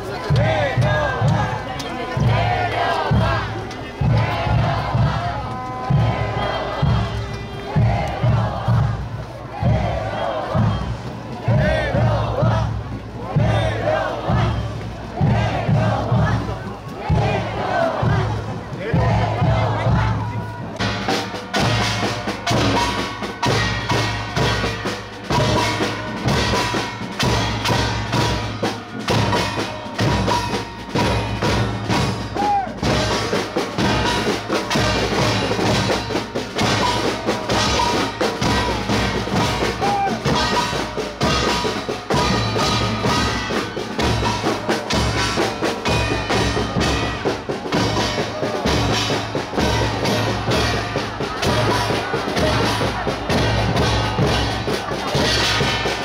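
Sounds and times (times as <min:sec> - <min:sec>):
music with drums and bass: 0:00.1 - 0:56.0.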